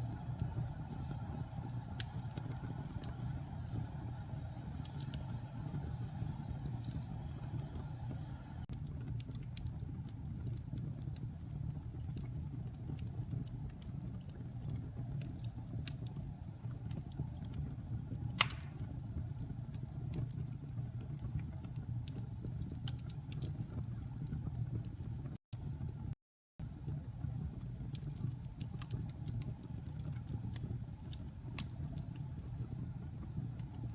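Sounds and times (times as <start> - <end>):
wood fire crackling: 0.0 - 25.9, 26.7 - 33.9
low fire rumble: 0.0 - 33.9.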